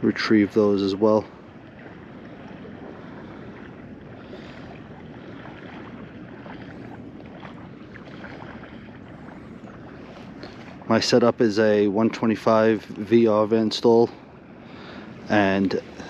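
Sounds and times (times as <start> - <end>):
water at shoreline: 0.0 - 16.0
wind on microphone: 0.0 - 16.0.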